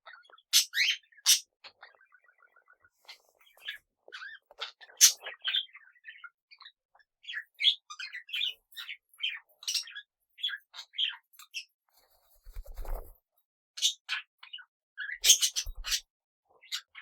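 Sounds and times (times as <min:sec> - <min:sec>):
parrots chirping and chattering: 0:00.0 - 0:11.7, 0:13.8 - 0:17.0.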